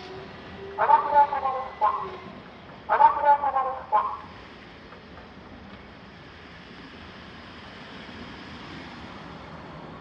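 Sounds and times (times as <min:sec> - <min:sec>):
road traffic rush: 0:00.0 - 0:10.0.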